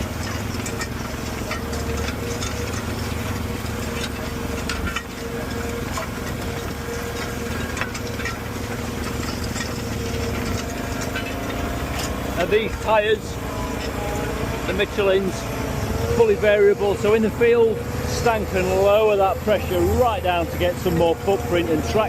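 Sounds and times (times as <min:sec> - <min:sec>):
quad bike engine: 0:00.0 - 0:22.0
short clicks and rattles: 0:00.0 - 0:22.0
tractor engine drone: 0:00.0 - 0:22.0.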